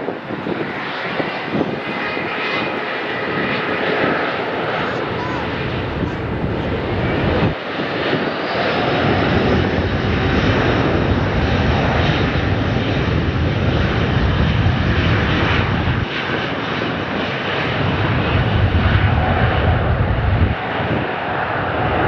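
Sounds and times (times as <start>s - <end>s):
jet engines roaring on takeoff: 0.0s - 22.0s.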